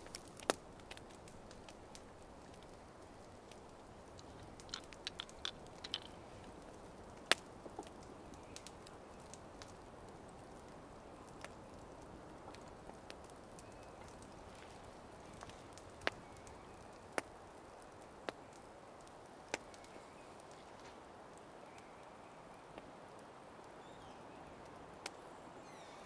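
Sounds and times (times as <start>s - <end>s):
fire pops: 0.0s - 21.0s
campfire crackling: 0.0s - 25.8s.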